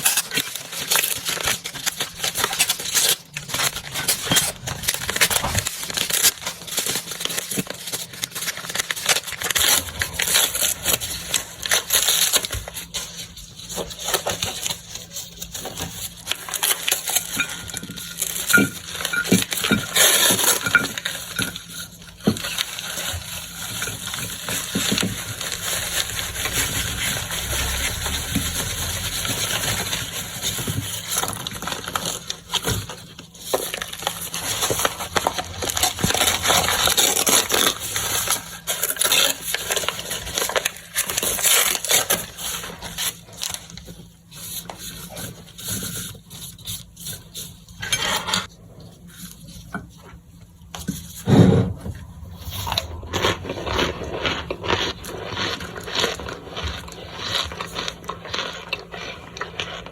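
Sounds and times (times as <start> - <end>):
crinkling wrapper being unwrapped: 0.0 - 47.8, 52.1 - 59.9.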